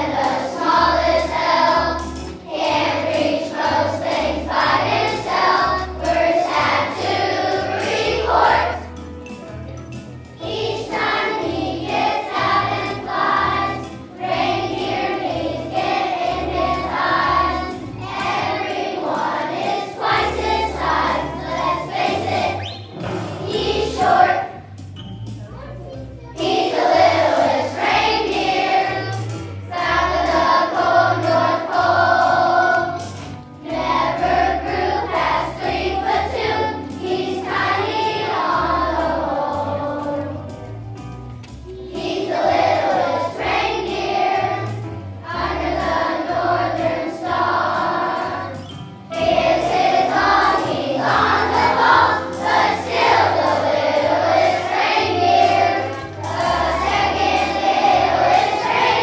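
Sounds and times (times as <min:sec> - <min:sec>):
children's choir singing: 0:00.0 - 0:09.5, 0:10.2 - 0:25.3, 0:26.3 - 0:59.0.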